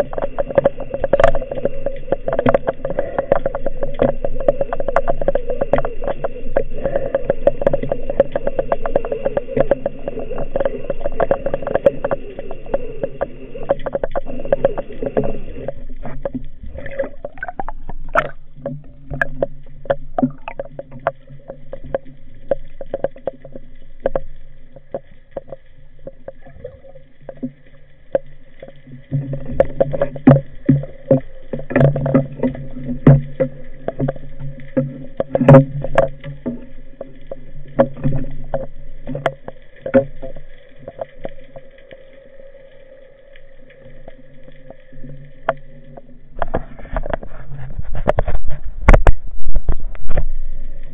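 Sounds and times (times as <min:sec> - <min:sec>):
underwater clicks and knocks: 0:00.0 - 0:50.9
underwater low drone: 0:00.0 - 0:50.9.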